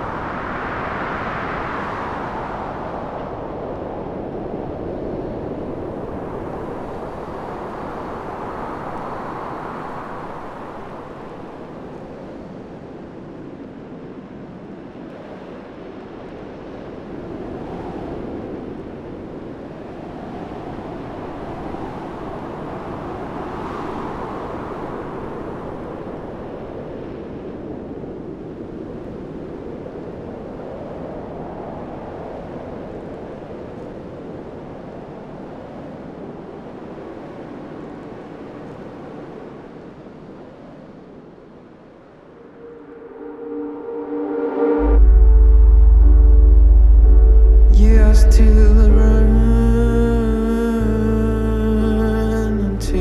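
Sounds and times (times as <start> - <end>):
strong wind gusting: 0.0 - 12.5, 16.9 - 38.3, 41.2 - 53.0.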